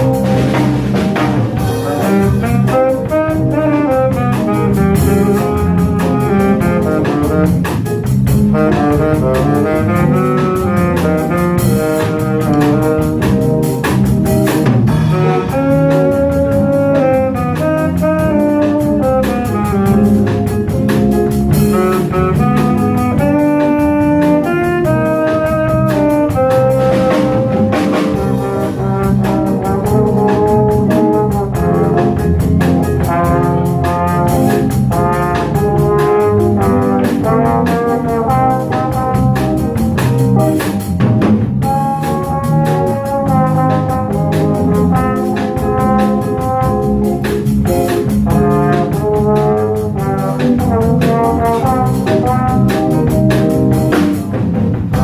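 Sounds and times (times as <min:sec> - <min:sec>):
bass: 0:00.0 - 0:55.0
drum kit: 0:00.0 - 0:55.0
piano: 0:00.0 - 0:55.0
tenor saxophone: 0:00.0 - 0:55.0
trombone: 0:00.0 - 0:55.0
trumpet: 0:00.0 - 0:55.0.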